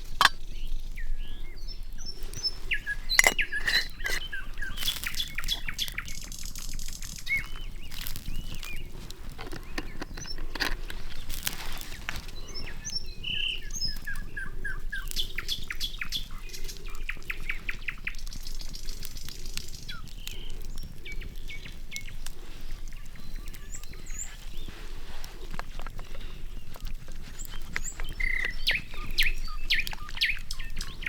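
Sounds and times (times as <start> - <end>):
campfire crackling: 0.0 - 1.0, 1.8 - 31.0
birds chirping: 0.0 - 31.0.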